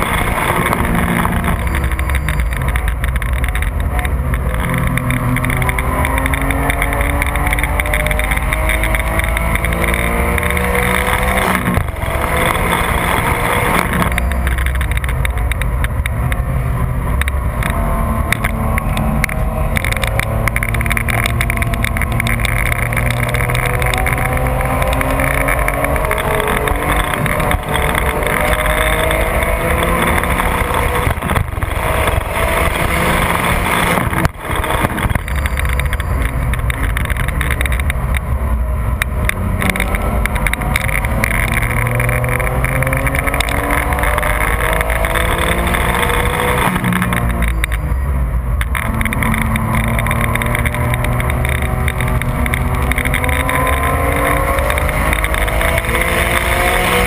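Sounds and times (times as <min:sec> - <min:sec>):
car engine revving through gears: 0:00.0 - 0:57.0
road and wind noise: 0:00.0 - 0:57.0.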